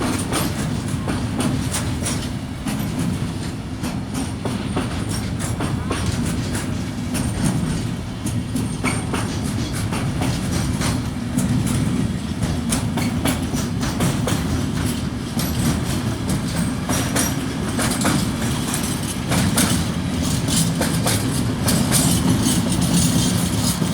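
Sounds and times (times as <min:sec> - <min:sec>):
freight train rumbling: 0:00.0 - 0:23.9
wheels clacking over rail joints: 0:00.0 - 0:23.9.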